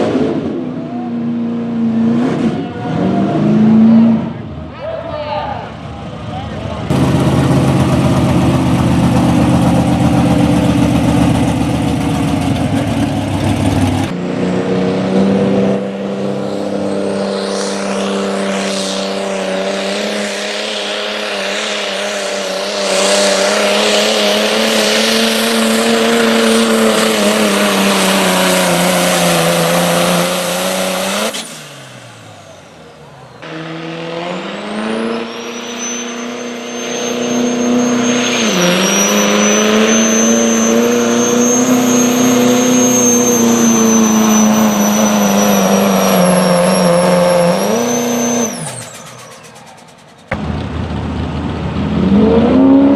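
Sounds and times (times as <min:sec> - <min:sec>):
diesel truck engine at full throttle: 0:00.0 - 0:52.9.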